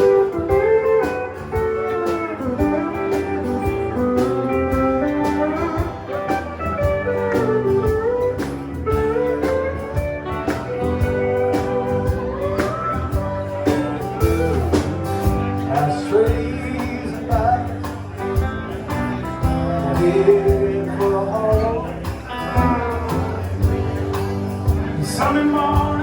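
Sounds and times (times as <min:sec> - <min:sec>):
bass: 0:00.0 - 0:26.0
lead guitar melody: 0:00.0 - 0:26.0.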